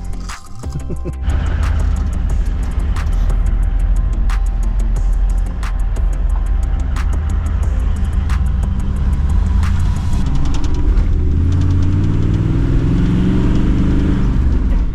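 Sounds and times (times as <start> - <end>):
sharp clicks: 0.0 - 12.5
vehicle engine rumbling: 0.0 - 14.9.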